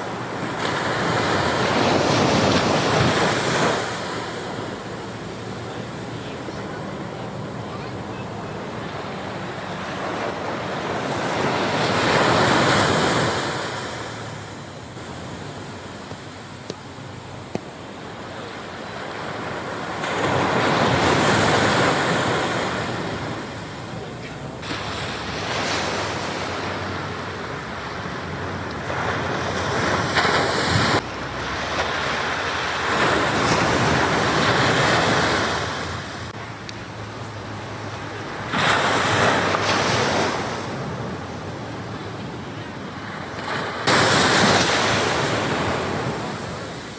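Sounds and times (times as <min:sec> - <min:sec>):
waves breaking on shore: 0:00.0 - 0:46.9.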